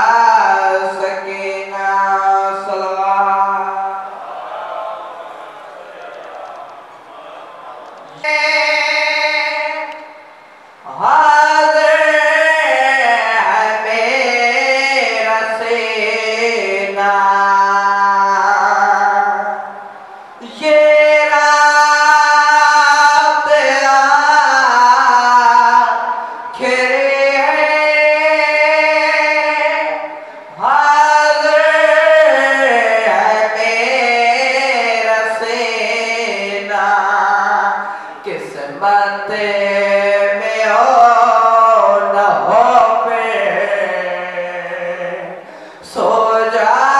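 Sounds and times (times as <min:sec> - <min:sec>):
man singing a lament: 0:00.0 - 0:05.2, 0:07.1 - 0:10.2, 0:10.9 - 0:46.9.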